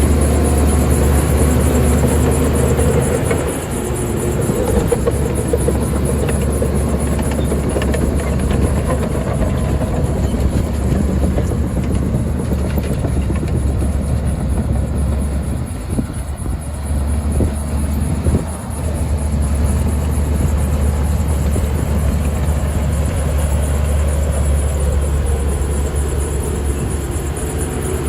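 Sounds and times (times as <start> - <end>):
heavy diesel machinery running: 0.0 - 28.0.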